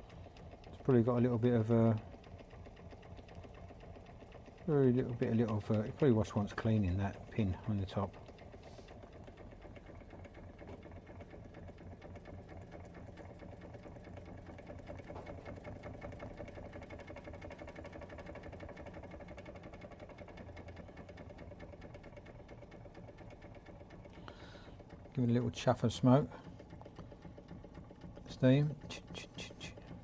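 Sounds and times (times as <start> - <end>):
model steam engine running: 0.0 - 30.0.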